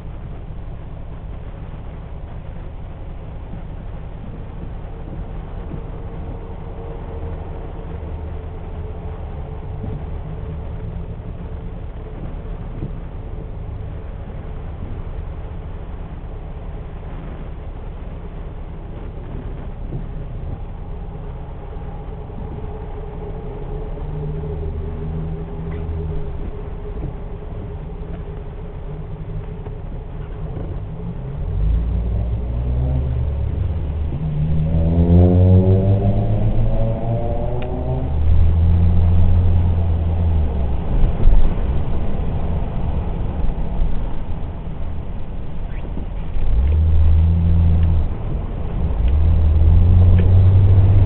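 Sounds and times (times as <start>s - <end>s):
car engine running: 0.0s - 51.0s
road noise: 0.0s - 51.0s.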